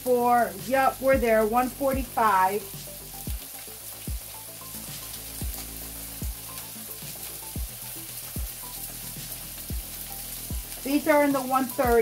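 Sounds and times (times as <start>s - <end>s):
patties sizzling in skillet: 0.0s - 12.0s.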